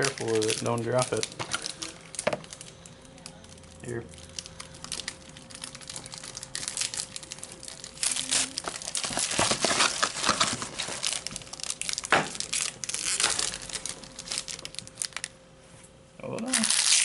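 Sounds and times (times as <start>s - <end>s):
foil wrapper tearing and crinkling: 0.0s - 15.3s, 16.4s - 17.0s.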